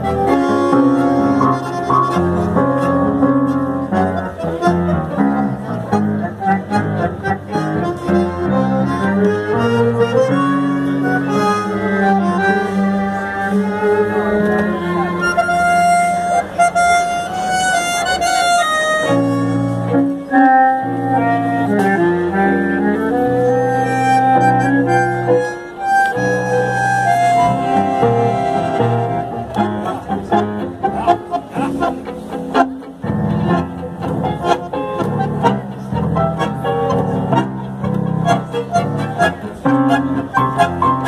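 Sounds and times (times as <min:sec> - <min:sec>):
tango ensemble playing: 0:00.0 - 0:41.0.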